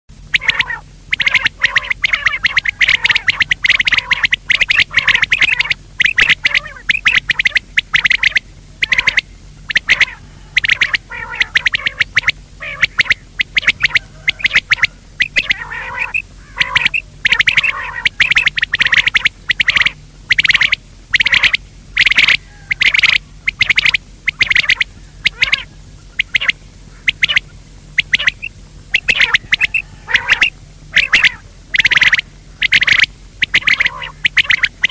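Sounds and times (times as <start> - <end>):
quail calling: 0.2 - 34.9.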